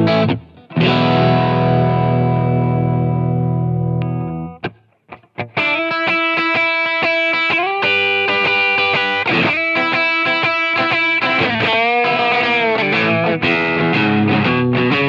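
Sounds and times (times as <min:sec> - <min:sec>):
electric guitar chords with drive: 0:00.0 - 0:15.0.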